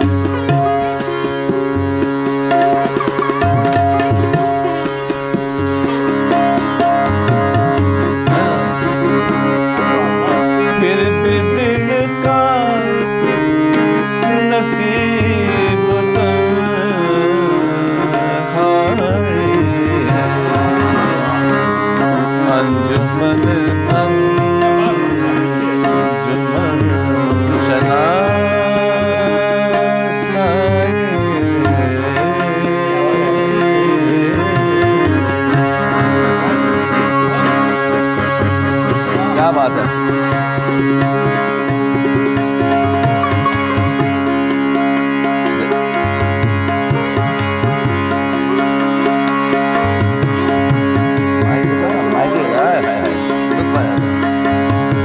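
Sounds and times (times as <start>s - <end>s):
harmonium sustained notes: 0.0s - 55.0s
sitar melody: 0.0s - 55.0s
tabla rhythm: 0.0s - 55.0s.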